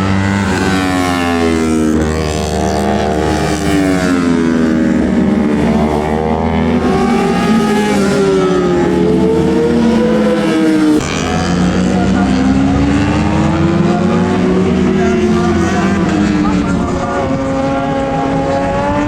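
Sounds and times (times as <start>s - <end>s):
racing motorcycles revving: 0.0s - 19.0s.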